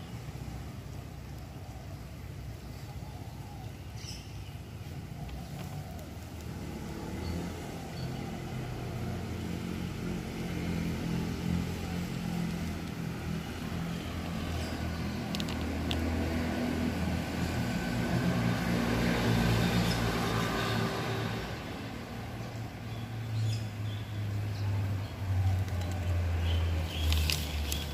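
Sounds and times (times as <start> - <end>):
vehicle engine humming: 0.0 - 27.9.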